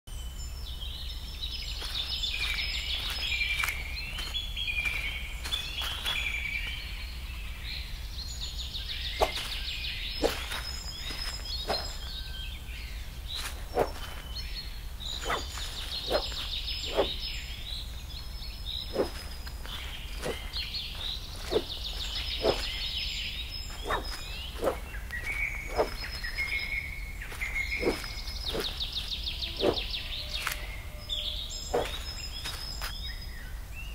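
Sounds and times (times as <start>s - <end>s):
songbird trilling: 0.9s - 33.5s.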